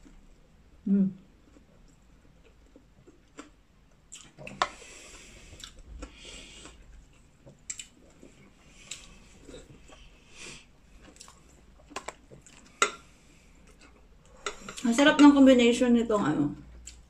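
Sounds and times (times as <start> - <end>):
person chewing: 1.3 - 14.9, 16.7 - 17.0.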